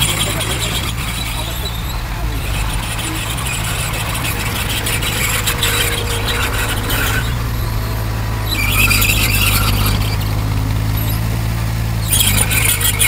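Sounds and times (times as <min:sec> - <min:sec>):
bulldozer diesel engine running: 0:00.0 - 0:13.0
squeal and clatter of steel tracks: 0:00.0 - 0:13.0.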